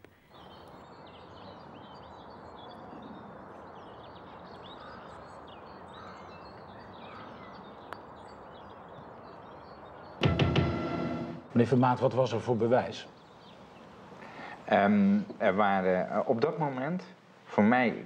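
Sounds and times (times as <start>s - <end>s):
small birds chirping: 0.0s - 10.2s, 11.5s - 18.0s
steady background hiss: 0.0s - 18.0s.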